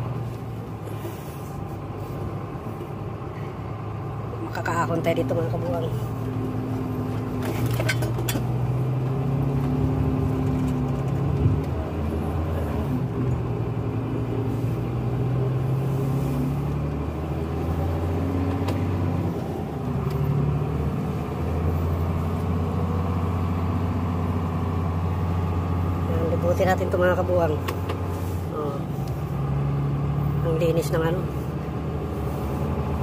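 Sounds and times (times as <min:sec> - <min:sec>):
truck engine running under load: 0:00.0 - 0:33.0.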